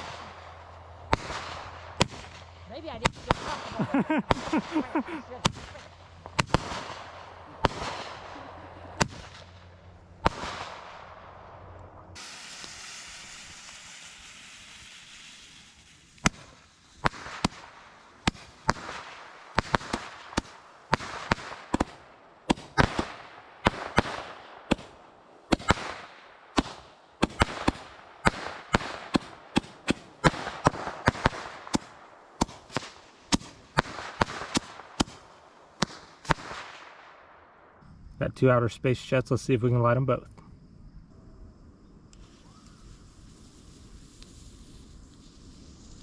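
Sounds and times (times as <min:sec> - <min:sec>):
fireworks hissing burn: 0:00.0 - 0:36.9, 0:42.1 - 0:46.0
fireworks sharp bangs: 0:00.0 - 0:37.8.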